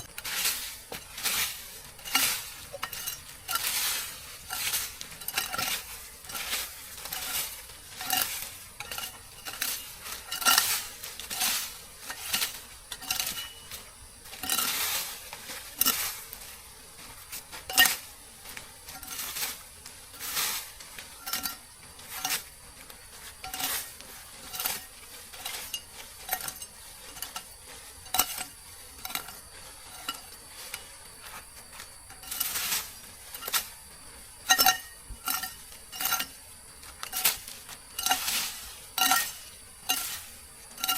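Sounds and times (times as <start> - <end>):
metal utensil scraping cookware: 0.0 - 16.3, 17.6 - 18.1, 18.9 - 20.4, 21.1 - 22.5, 23.2 - 30.9, 32.1 - 33.7, 34.4 - 36.4, 37.0 - 40.9
light sizzle: 0.0 - 40.9.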